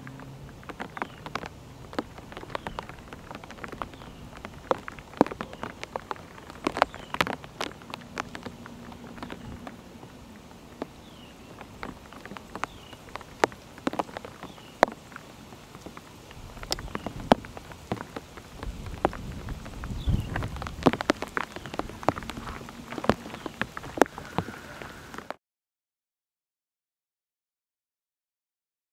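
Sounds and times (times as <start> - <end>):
rain drops tapping: 0.0 - 25.4
rain hiss: 0.0 - 25.4.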